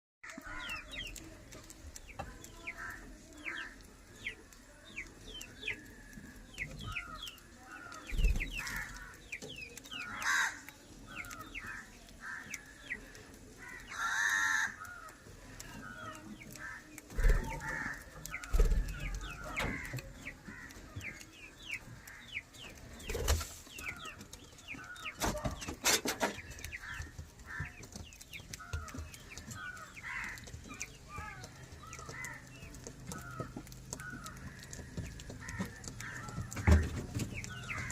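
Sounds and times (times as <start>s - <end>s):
lovebirds chirping: 0.2s - 37.9s.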